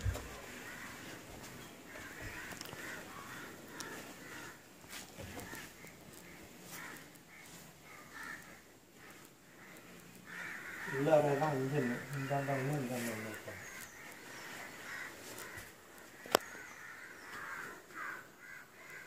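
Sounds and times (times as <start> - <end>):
crows cawing: 0.0 - 19.0.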